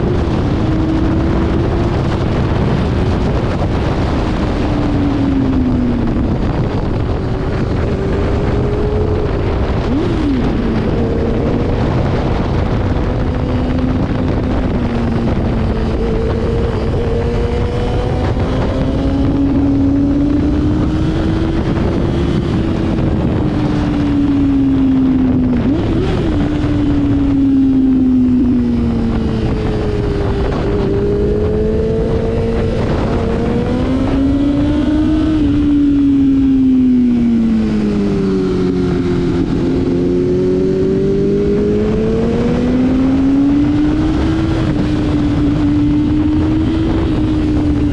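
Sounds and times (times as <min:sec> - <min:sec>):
motorcycle engine running: 0:00.0 - 0:47.9
wind rush on microphone: 0:00.0 - 0:47.9.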